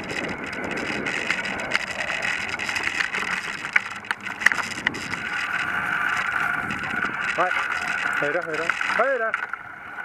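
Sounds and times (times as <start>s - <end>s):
bicycle rolling and rattling: 0.0s - 10.0s.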